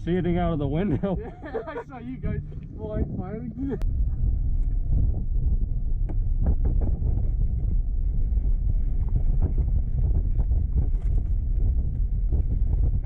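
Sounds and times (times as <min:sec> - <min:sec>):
engine and road noise: 0:00.0 - 0:13.0
wind buffeting microphone: 0:00.0 - 0:13.0.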